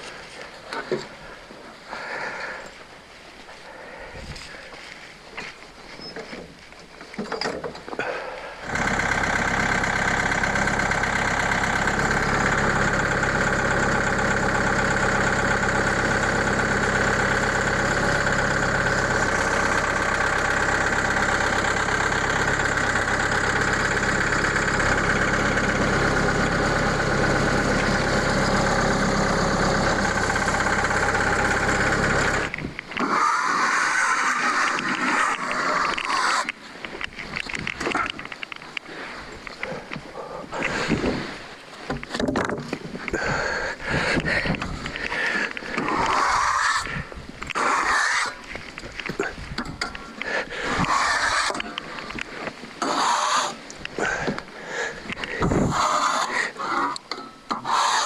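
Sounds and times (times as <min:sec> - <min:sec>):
sawmill engine running: 0:07.2 - 0:58.0.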